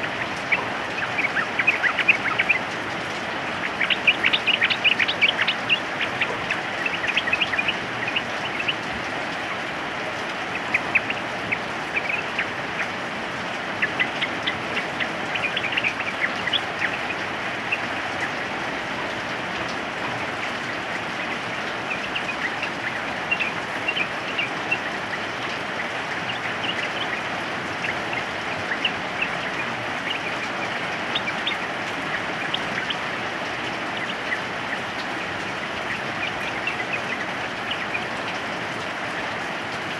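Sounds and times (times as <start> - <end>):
birds chirping: 0.0 - 39.9
steady rain hiss: 0.0 - 39.9.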